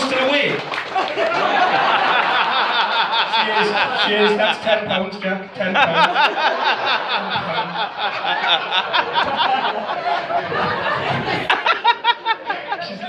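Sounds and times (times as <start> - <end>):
group of people laughing: 0.7 - 13.0.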